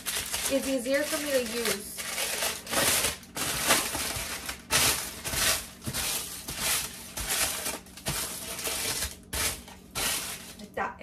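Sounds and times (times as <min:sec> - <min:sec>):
parchment paper crinkling: 0:00.0 - 0:10.7.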